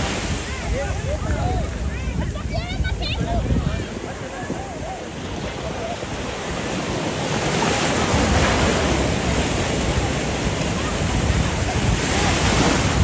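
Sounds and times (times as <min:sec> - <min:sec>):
surf washing through shallow water: 0:00.0 - 0:13.0
wind rumbling on microphone: 0:00.0 - 0:13.0.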